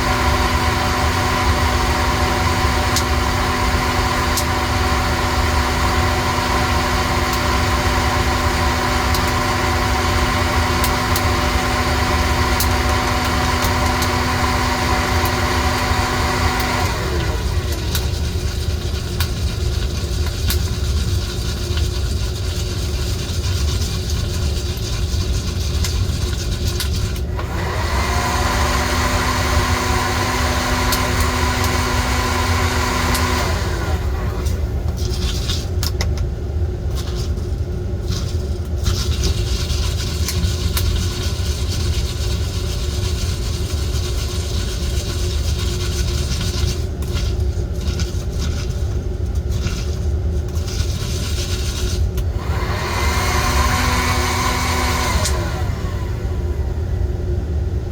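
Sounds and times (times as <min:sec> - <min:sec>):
coffee roaster low rumble: 0:00.0 - 0:57.9
steady hum: 0:00.0 - 0:57.9.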